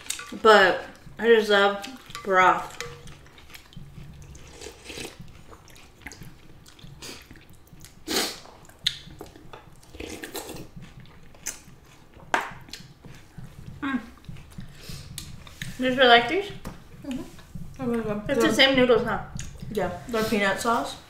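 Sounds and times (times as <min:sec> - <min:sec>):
noodles slurped and chewed: 0:00.0 - 0:21.0.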